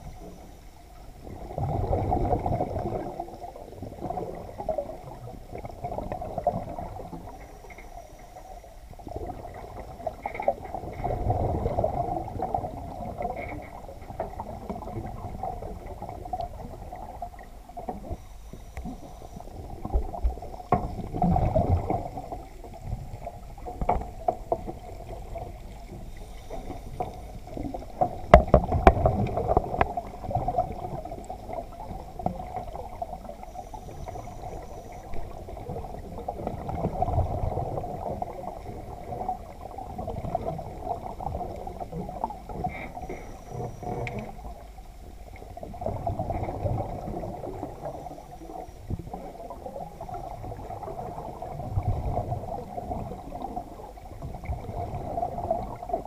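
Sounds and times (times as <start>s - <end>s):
underwater water surging: 0.0s - 56.0s.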